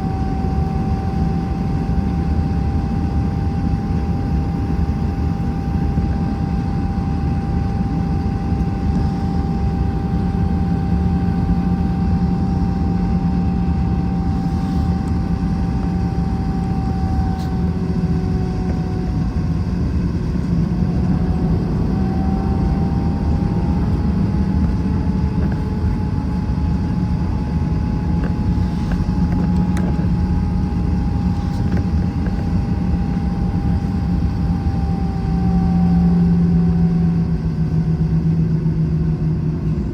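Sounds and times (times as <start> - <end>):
jet engine rumble and whine: 0.0 - 39.9.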